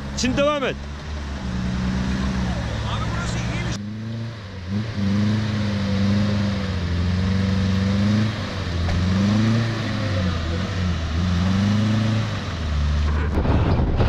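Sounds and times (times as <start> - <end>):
car engine revving under load: 0.0 - 14.0.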